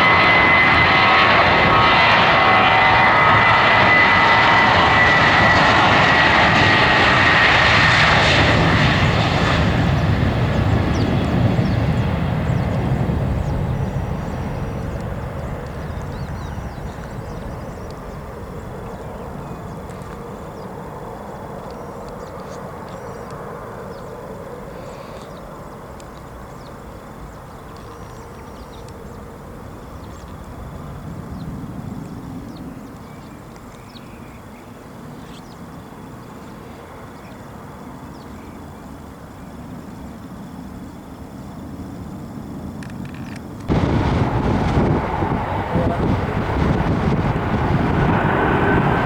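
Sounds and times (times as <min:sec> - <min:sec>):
jet engine rumble: 0:00.0 - 0:49.0.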